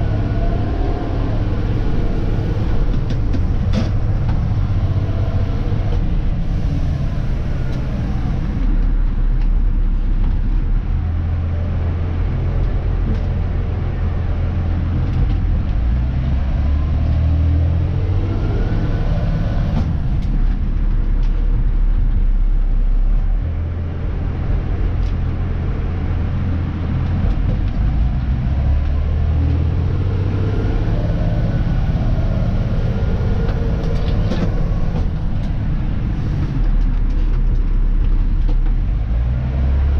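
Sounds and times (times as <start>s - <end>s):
truck diesel engine whining: 0.0s - 39.9s.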